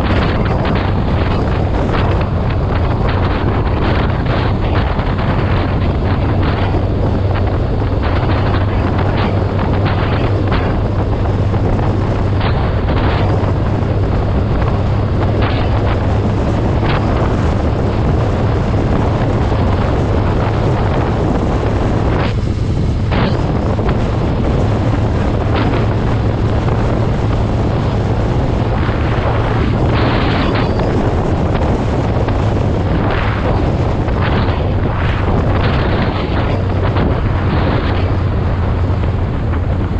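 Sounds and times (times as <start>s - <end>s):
vehicle engine droning: 0.0s - 39.9s
wind buffeting microphone: 0.0s - 39.9s.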